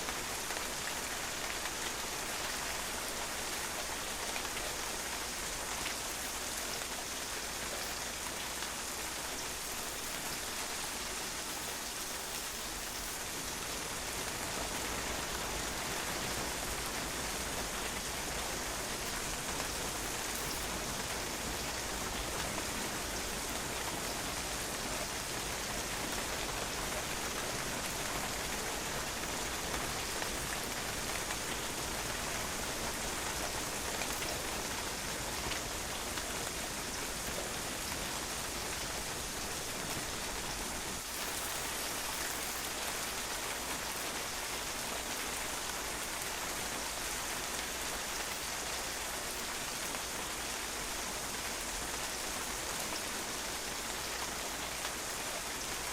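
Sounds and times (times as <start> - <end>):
rain pattering on a patio: 0.0 - 55.9.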